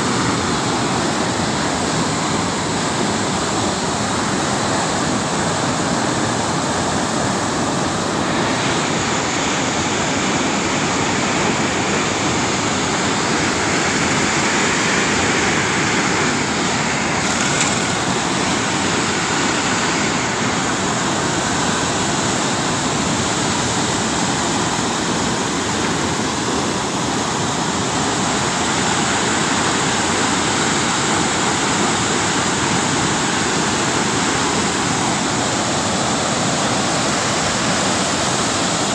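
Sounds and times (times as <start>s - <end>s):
water rushing through sluice gates: 0.0s - 38.9s.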